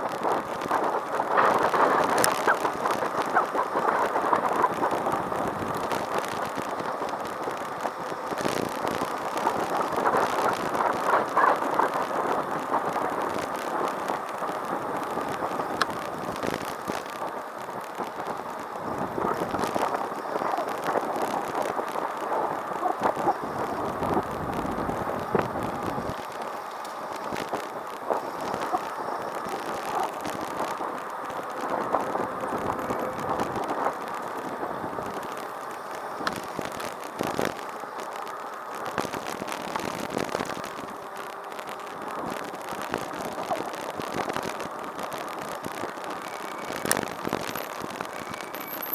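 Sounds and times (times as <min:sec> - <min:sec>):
small rattles and clicks: 0:00.0 - 0:48.9
tyre noise on street: 0:00.0 - 0:48.9.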